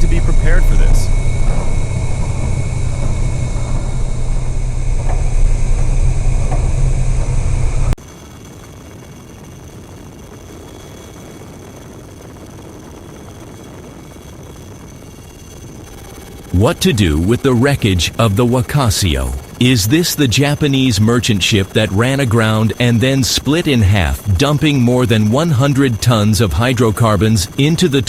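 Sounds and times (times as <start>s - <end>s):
deep rumble aboard ship in storm: 0.0s - 8.0s, 11.4s - 28.0s.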